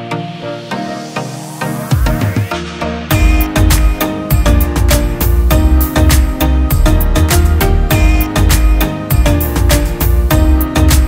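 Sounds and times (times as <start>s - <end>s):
music with heavy bass beat: 0.0s - 11.0s.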